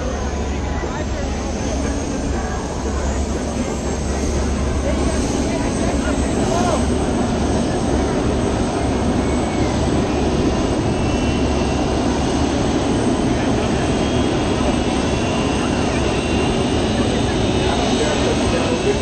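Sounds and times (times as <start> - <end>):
distant jet engines droning: 0.0 - 19.0
high engine whine: 0.0 - 19.0.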